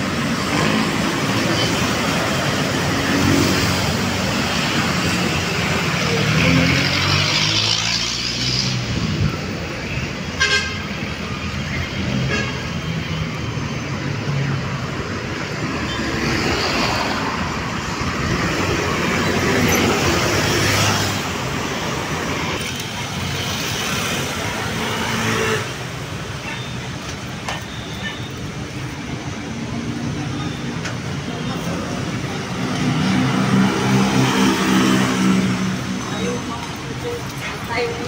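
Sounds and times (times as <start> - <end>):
vehicles passing close by: 0.0 - 38.0.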